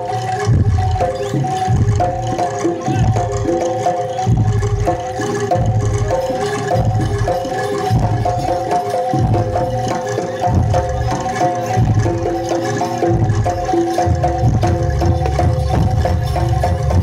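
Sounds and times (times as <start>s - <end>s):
hand drums beating: 0.0s - 17.0s
pitched metal melody: 0.0s - 17.0s.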